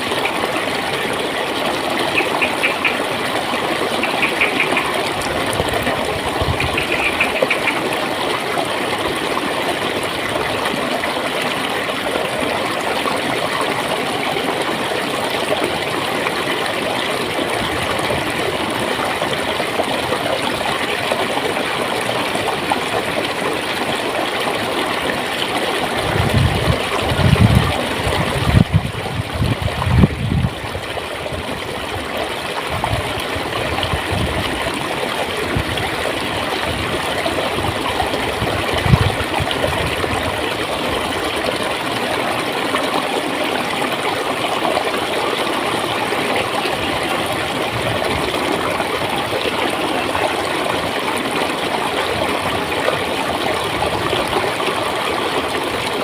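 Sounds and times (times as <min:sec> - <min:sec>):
stream water flowing and gurgling: 0:00.0 - 0:56.0.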